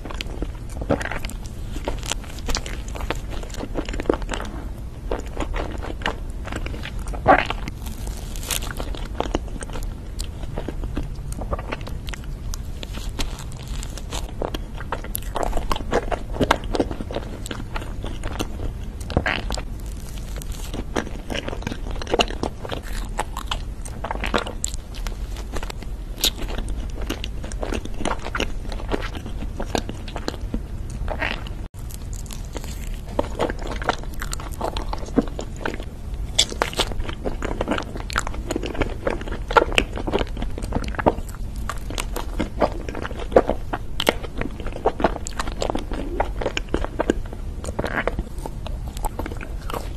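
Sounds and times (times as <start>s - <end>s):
chewing crunchy snack cakes: 0.0s - 49.9s.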